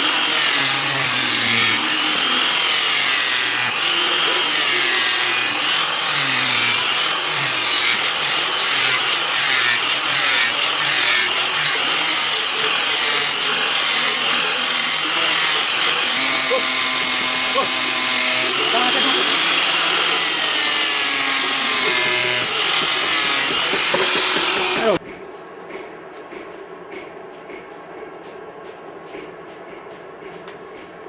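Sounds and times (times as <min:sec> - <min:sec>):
power tool grinding steel: 0:00.0 - 0:25.0.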